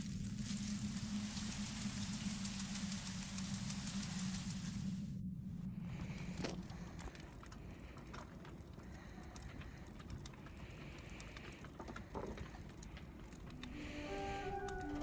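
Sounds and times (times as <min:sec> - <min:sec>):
low rumble: 0:00.0 - 0:15.0
wood fire crackling: 0:00.0 - 0:15.0.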